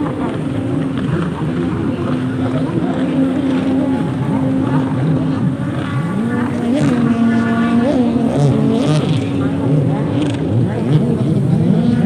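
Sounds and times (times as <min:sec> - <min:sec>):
jet ski engines: 0:00.0 - 0:12.0.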